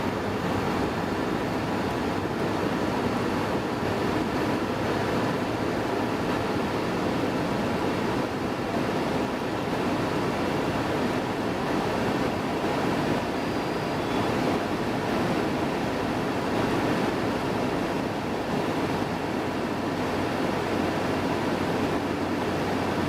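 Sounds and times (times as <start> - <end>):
rushing wind: 0.0 - 23.0.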